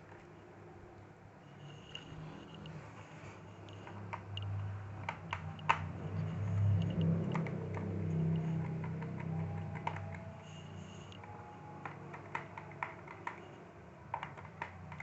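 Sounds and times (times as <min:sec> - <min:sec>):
low steady hum: 0:00.0 - 0:14.1.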